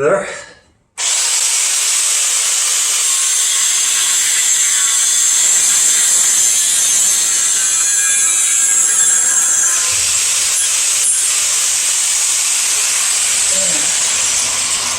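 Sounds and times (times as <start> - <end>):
angle grinder cutting metal pipe: 1.0 - 14.9.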